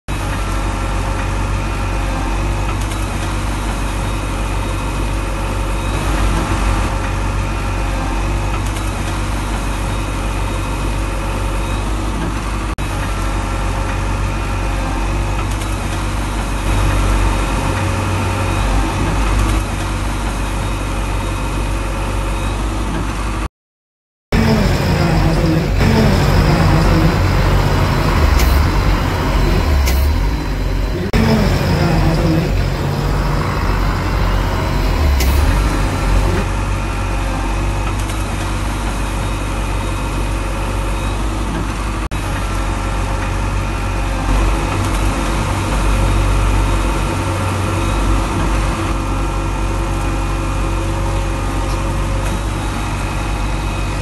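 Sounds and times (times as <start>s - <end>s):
diesel engine running: 0.1s - 23.5s, 24.3s - 54.0s.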